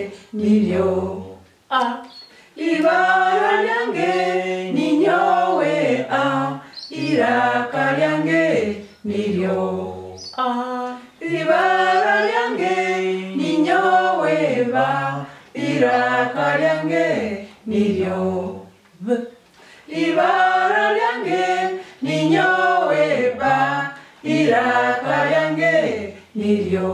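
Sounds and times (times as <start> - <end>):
group of voices singing unaccompanied: 0.0 - 26.9.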